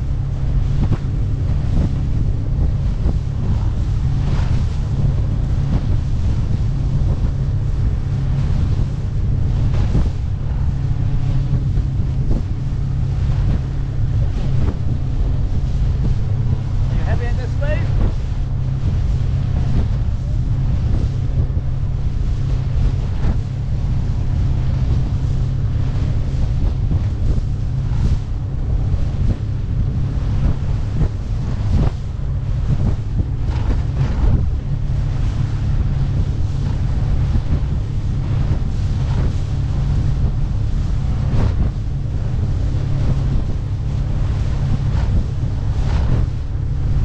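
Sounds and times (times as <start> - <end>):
hull slapping on water: 0.0 - 47.0
outboard motor running: 0.0 - 47.0
wind rumbling on microphone: 0.0 - 47.0.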